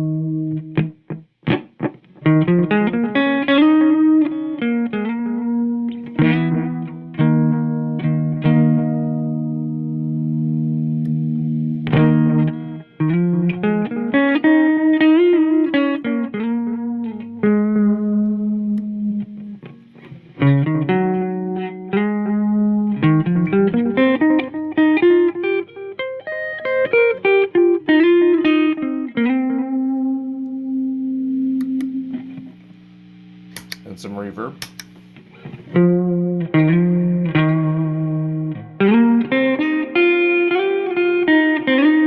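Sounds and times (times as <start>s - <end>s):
electric guitar with delay: 0.0s - 32.5s, 35.3s - 42.0s.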